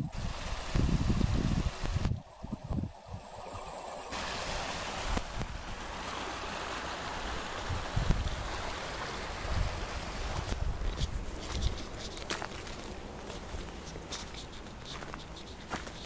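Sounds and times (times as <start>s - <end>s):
creek water rushing over stones: 0.0s - 16.0s.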